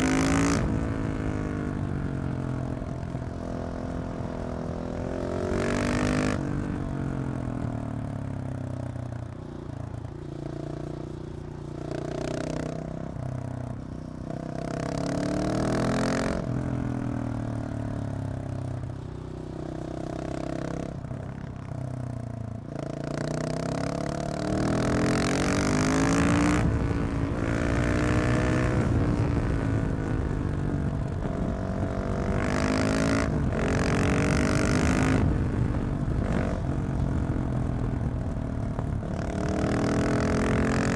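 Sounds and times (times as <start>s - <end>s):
motorcycle engine revving: 0.0s - 13.5s, 14.2s - 21.3s, 22.1s - 40.9s.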